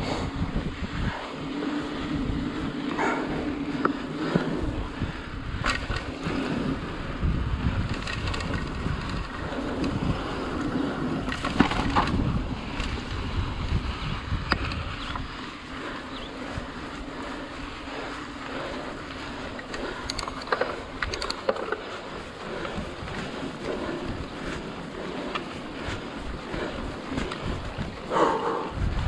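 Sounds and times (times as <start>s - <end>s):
bike rattling over bumps: 0.0s - 29.0s
bike tyres rumbling on dirt: 0.0s - 29.0s.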